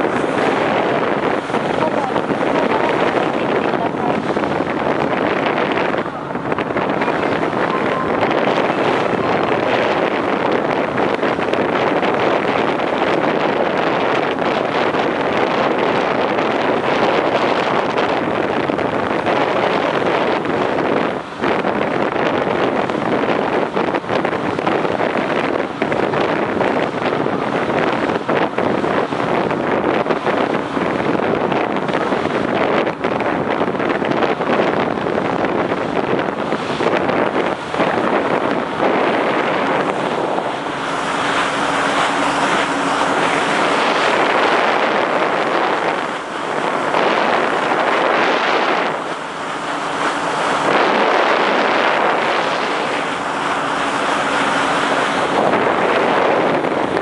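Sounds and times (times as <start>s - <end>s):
water rushing along hull: 0.0s - 57.0s
wind buffeting microphone: 0.0s - 57.0s.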